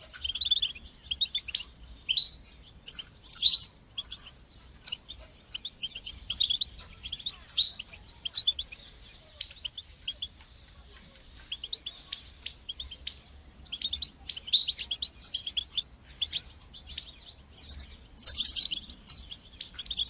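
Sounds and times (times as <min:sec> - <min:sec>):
goldfinch singing: 0:00.0 - 0:20.0.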